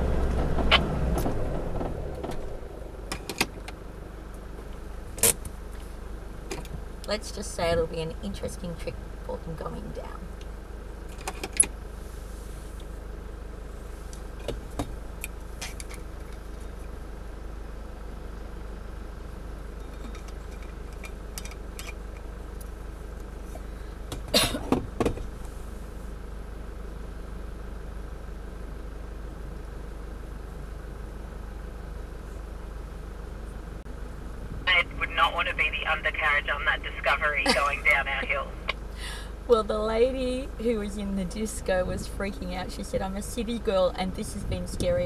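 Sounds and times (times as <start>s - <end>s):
engine idling: 0.0s - 44.6s.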